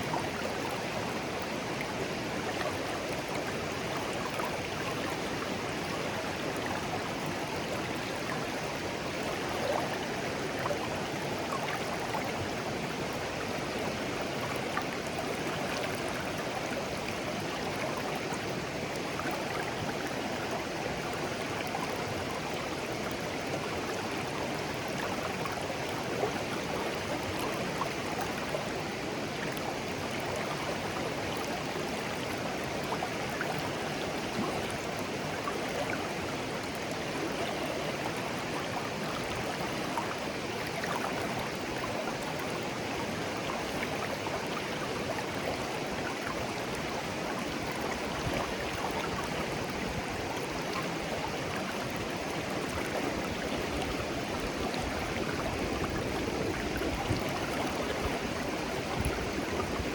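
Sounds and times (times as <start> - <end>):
stream babbling over stones: 0.1 - 59.9.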